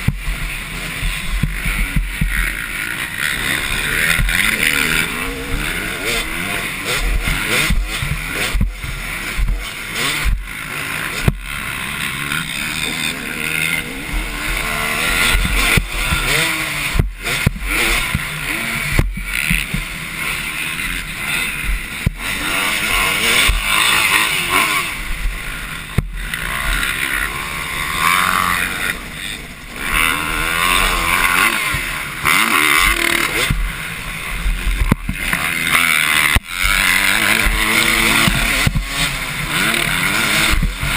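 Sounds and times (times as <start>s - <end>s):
motocross motorcycles revving: 0.0s - 40.9s.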